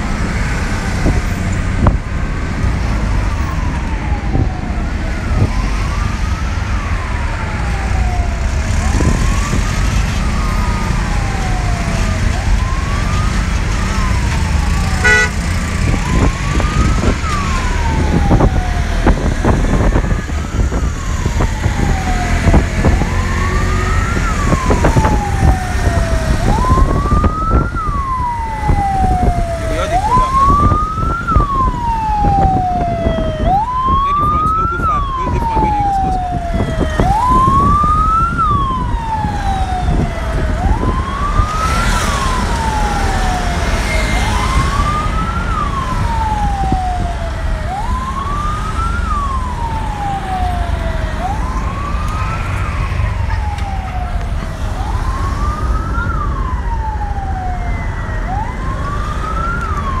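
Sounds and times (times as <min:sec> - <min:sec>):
ambulance siren wailing: 0:00.0 - 1:00.0
traffic rumble: 0:00.0 - 1:00.0.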